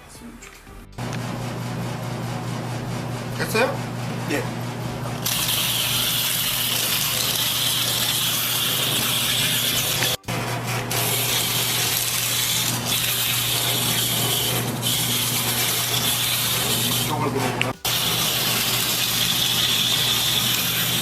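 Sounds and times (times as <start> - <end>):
peeling machine motor hum: 1.0 - 21.0.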